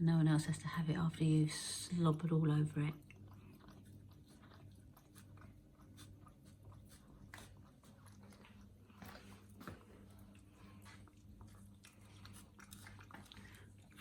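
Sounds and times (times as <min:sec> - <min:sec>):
low steady hum: 0:00.0 - 0:14.0
cat chewing wet food: 0:01.5 - 0:14.0.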